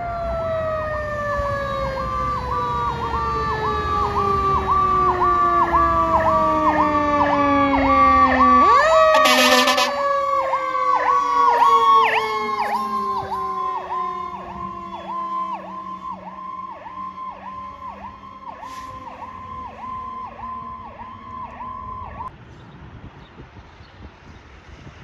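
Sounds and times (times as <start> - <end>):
fire engine siren warbling: 0.0 - 22.3.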